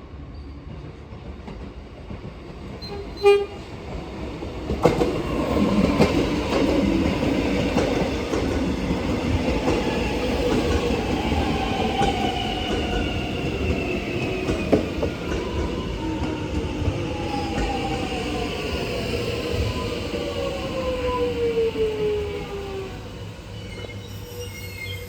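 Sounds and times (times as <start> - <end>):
electric train whine: 2.9 - 25.0.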